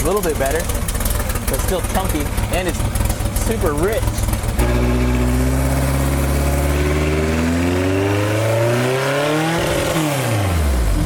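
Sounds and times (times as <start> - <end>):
race car engine running: 0.0 - 11.0.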